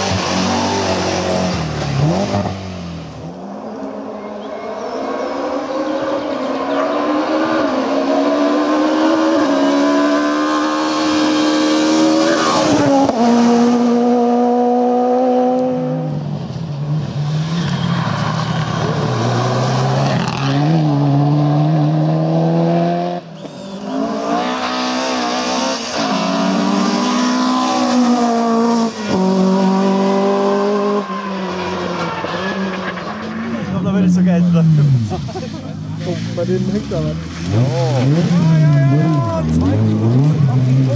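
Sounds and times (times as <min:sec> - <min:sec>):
rally car engines revving high: 0:00.0 - 0:40.9.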